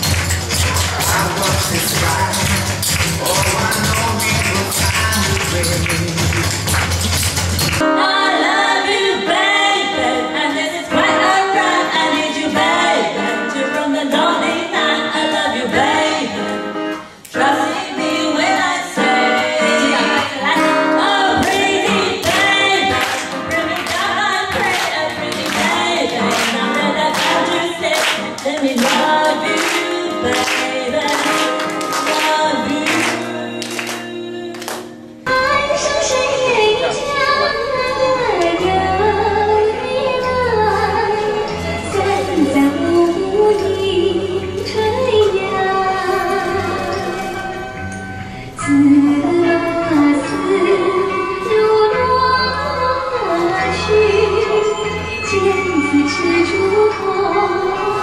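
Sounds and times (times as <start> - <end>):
women singing into microphones: 7.8 - 47.8, 48.6 - 58.0.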